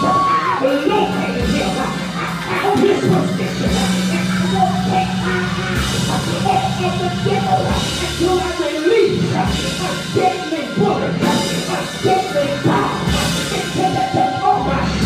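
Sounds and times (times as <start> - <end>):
church band playing: 0.0 - 15.0
people singing and calling out: 0.0 - 15.0.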